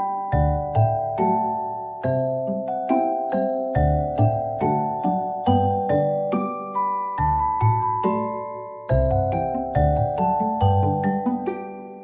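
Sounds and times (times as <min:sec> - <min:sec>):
mallet percussion melody: 0:00.0 - 0:12.0.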